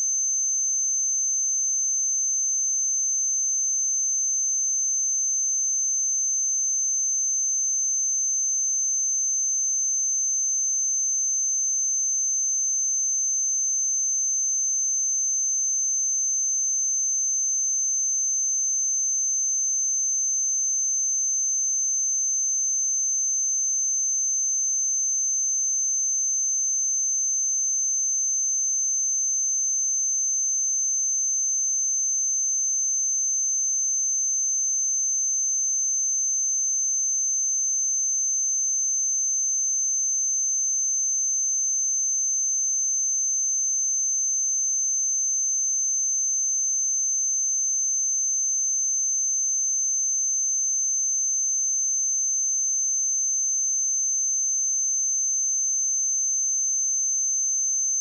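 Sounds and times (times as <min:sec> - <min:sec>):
high-pitched sine test tone: 0:00.0 - 0:58.0.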